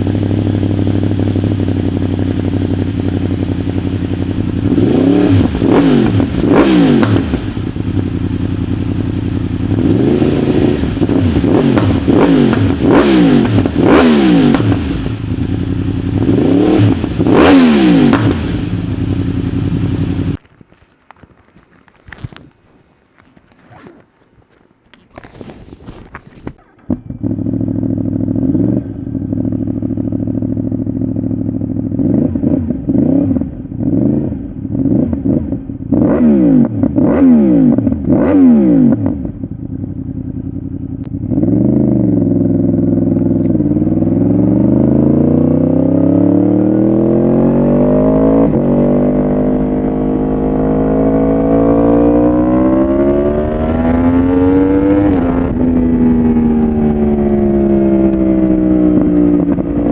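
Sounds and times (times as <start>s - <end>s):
motorcycle engine revving: 0.0s - 20.4s, 26.4s - 59.9s.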